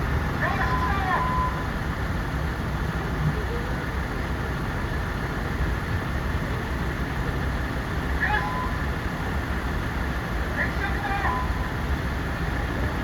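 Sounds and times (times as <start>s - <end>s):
fire engines idling: 0.0s - 13.0s.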